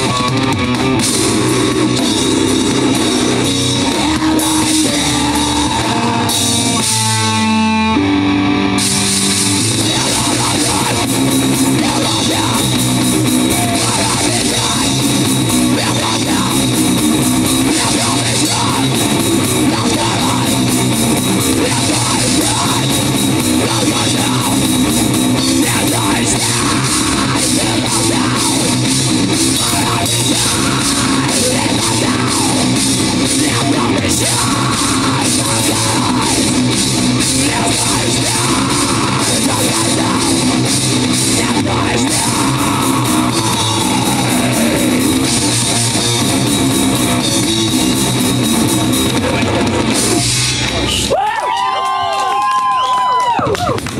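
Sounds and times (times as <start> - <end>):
distorted electric guitars: 0.0 - 53.9
drum kit: 0.0 - 53.9.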